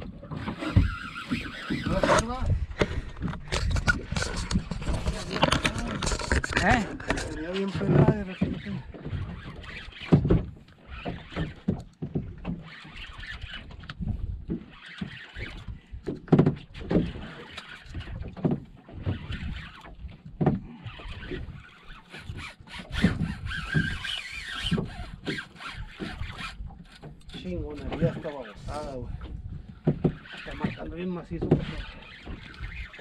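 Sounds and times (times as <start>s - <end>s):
sea and wind rushing: 0.0s - 33.0s
water slapping against boat hull: 0.0s - 33.0s.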